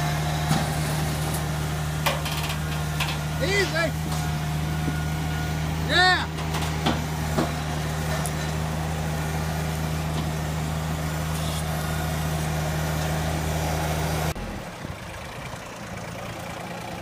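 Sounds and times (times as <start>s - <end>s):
engine idling: 0.0s - 17.0s
tractor engine running: 0.0s - 17.0s.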